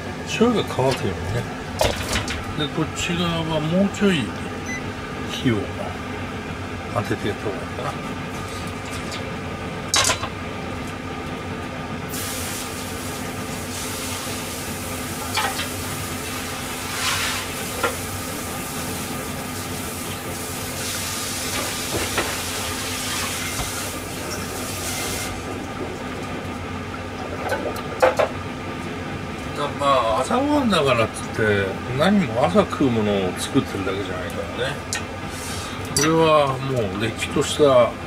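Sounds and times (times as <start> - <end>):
induction cooktop humming: 0.0 - 38.0.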